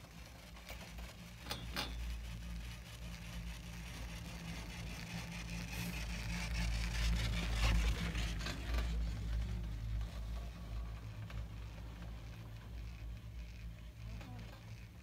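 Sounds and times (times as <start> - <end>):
skis scraping over snow: 2.1 - 15.0.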